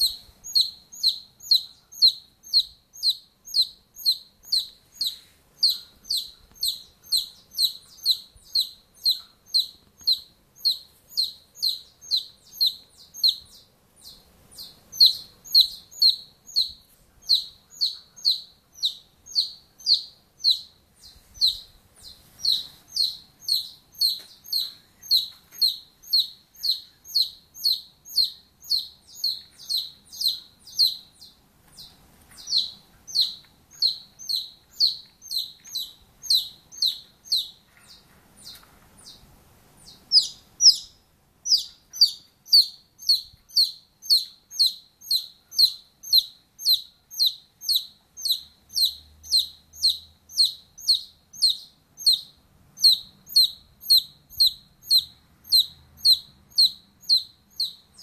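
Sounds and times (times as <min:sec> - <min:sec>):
bird chirping: 0:00.0 - 0:58.0.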